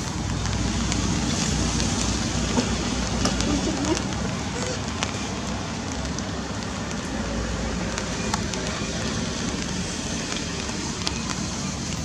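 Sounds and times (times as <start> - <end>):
rain drops ticking: 0.0 - 12.0
steady rain hiss: 0.0 - 12.0.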